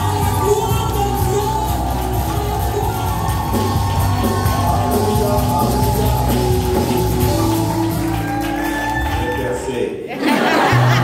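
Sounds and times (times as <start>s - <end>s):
rock worship band playing: 0.0s - 9.9s.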